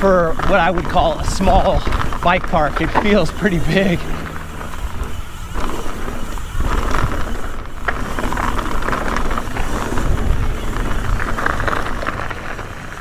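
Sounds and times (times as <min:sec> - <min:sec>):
low wind rumble on microphone: 0:00.0 - 0:13.0
tyres crunching over dirt and rock: 0:00.0 - 0:13.0.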